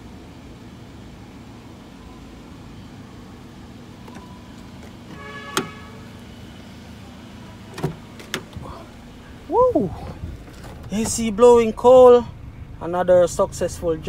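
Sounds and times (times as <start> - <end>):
car idling with ac hum: 0.0 - 14.0.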